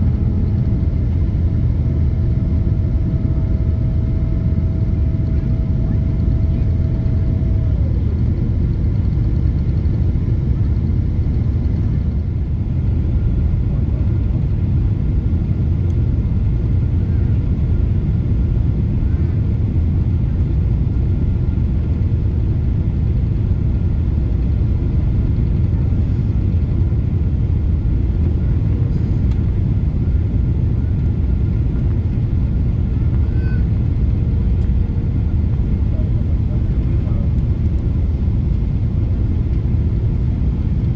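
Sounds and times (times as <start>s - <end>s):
airliner cabin rumble: 0.0s - 40.9s.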